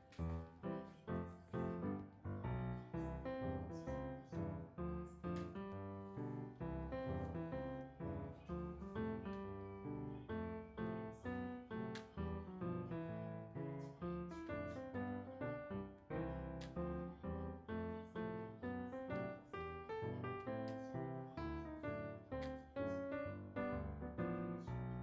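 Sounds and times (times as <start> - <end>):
piano tune with steady beat: 0.0 - 25.0.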